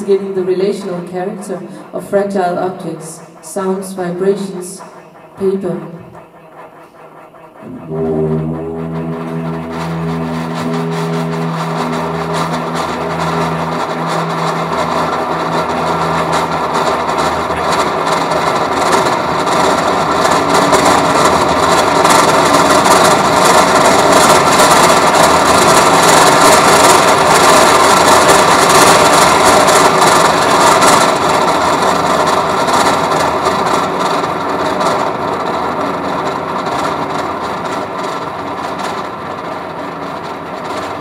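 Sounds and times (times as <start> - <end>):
dense noisy buzz with tones: 0.0 - 41.0.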